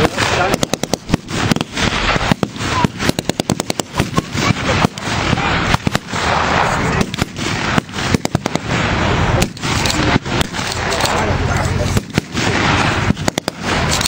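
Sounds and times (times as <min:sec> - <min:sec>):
blank gunfire shots: 0:00.0 - 0:11.3, 0:11.9 - 0:14.0.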